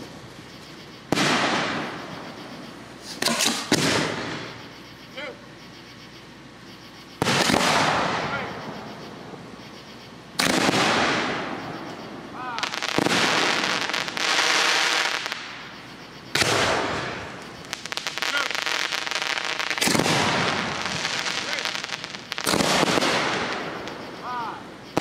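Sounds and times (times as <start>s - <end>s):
fireworks booming: 0.0s - 5.0s, 7.1s - 25.0s.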